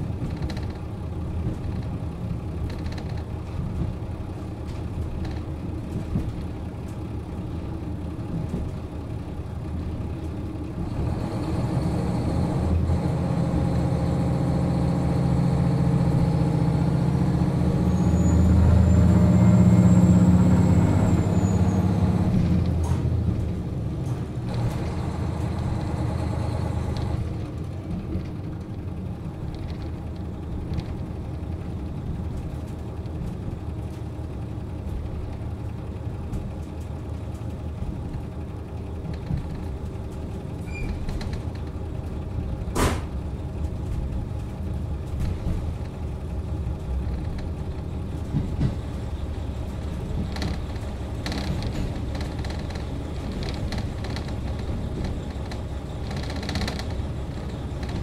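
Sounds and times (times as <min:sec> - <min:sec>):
diesel railcar engine: 0:00.0 - 0:58.0.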